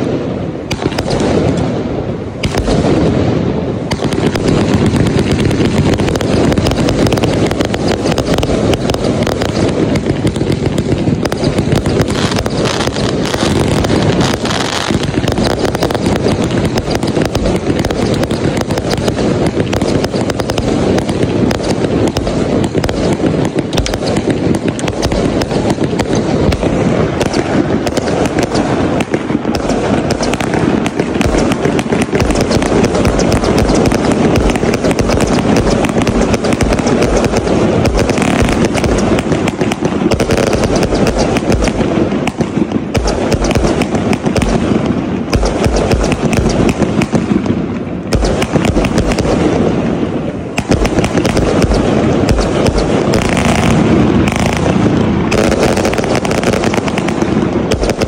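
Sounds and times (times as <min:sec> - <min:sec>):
fireworks barrage: 0:00.0 - 0:58.0.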